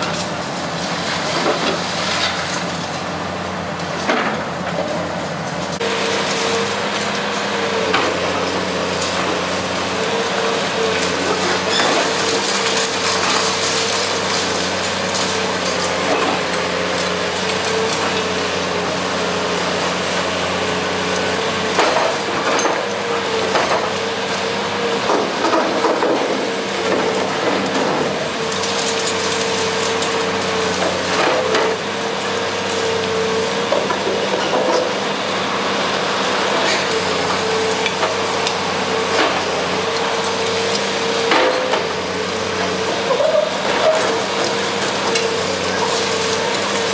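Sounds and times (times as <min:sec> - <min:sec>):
excavator engine and pump drone: 0:00.0 - 0:46.9.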